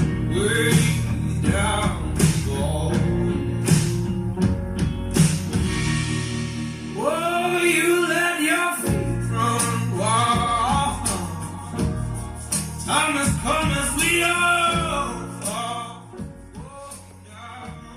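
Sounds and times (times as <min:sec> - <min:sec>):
man singing: 0:00.0 - 0:03.7, 0:07.0 - 0:17.9
drums: 0:00.0 - 0:17.9
guitar: 0:00.0 - 0:17.9.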